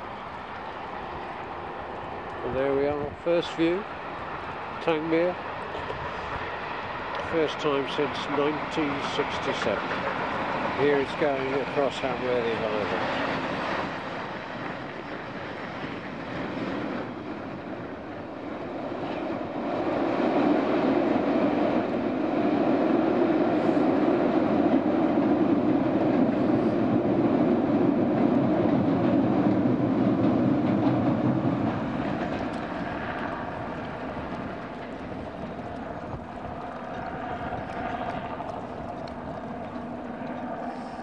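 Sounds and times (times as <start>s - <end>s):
passing train rumble: 0.0s - 41.0s.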